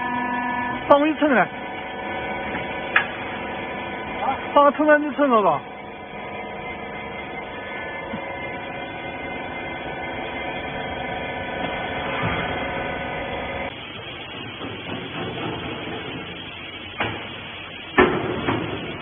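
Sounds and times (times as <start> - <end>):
baler motor and pump hum: 0.0 - 19.0.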